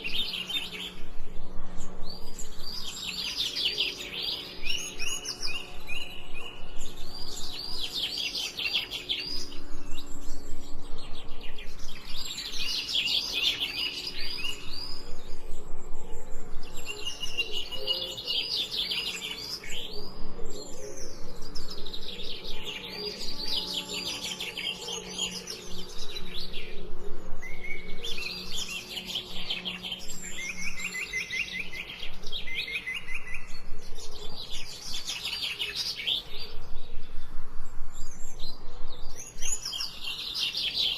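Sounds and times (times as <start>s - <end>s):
songbirds singing trilled chirps: 0.0s - 40.9s.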